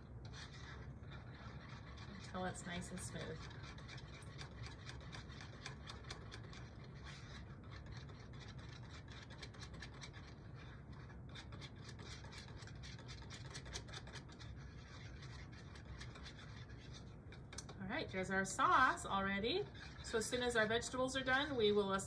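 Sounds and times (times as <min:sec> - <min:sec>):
wire whisk scraping a bowl: 0:00.0 - 0:22.0.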